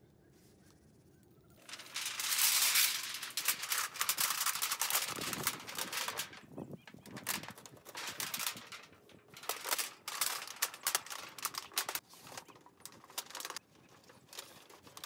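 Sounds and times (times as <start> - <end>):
metal sheet crinkling and rattling: 1.6 - 15.0.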